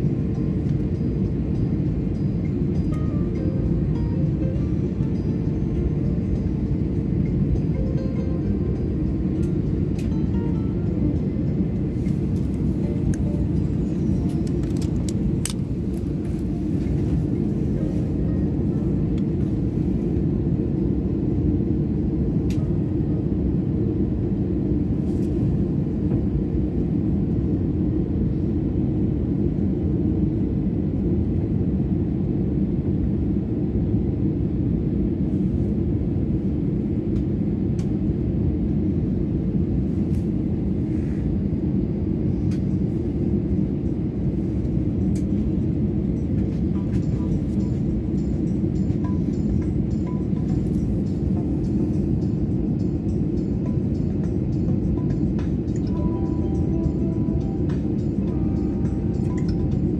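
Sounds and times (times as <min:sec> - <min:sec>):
jet airliner rumble from cabin: 0:00.0 - 0:59.9.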